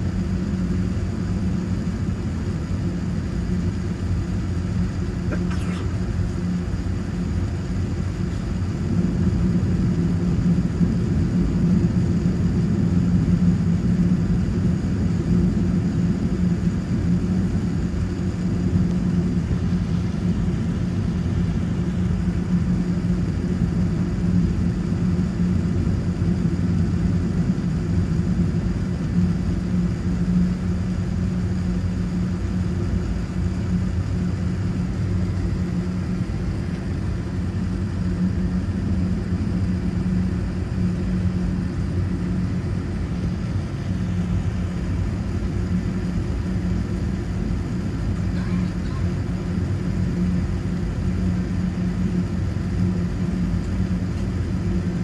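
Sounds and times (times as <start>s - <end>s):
low engine rumble: 0.3s - 55.0s.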